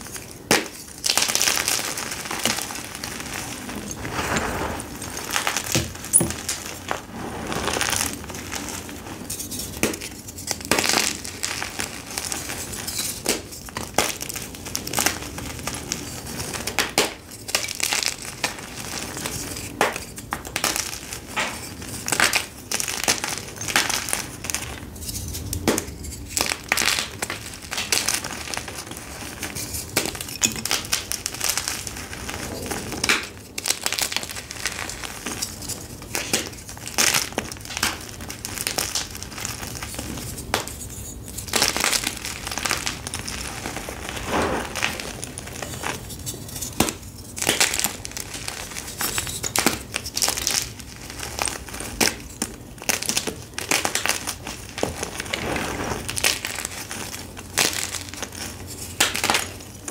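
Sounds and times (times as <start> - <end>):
chalk blocks crunching and snapping: 0.0 - 4.5, 5.2 - 59.9.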